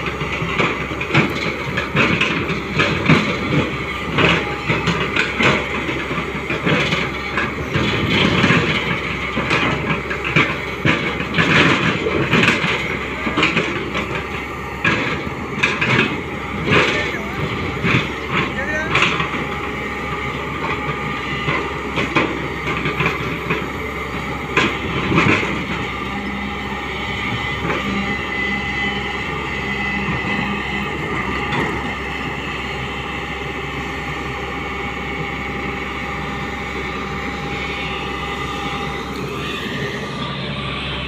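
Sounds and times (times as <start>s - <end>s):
excavator engine and hydraulics droning: 0.0s - 41.0s.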